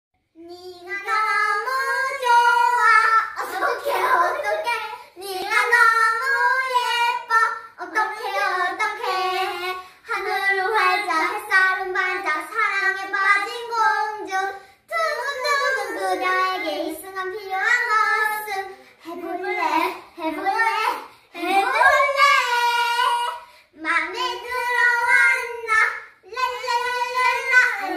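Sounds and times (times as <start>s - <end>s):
girls singing unaccompanied: 0.3s - 27.9s.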